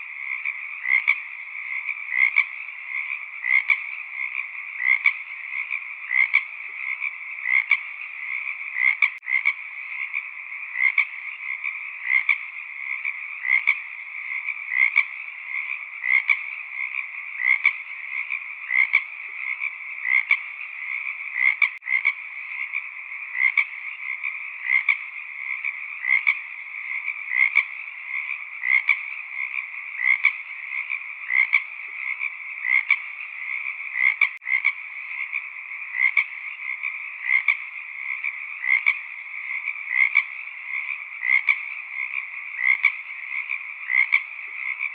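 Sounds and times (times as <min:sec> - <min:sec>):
frogs chorus: 0:00.0 - 0:44.9
loud frog call: 0:00.0 - 0:44.9.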